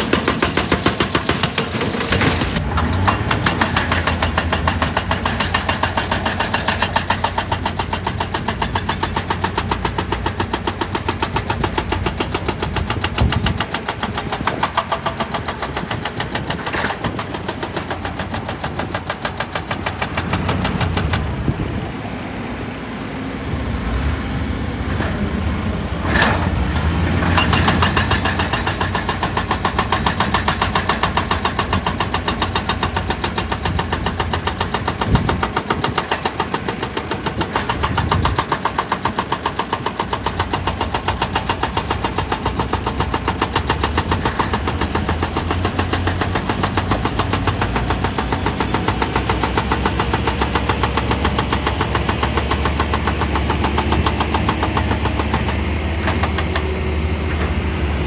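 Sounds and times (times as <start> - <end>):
excavator engine pulsing: 0.0 - 58.0.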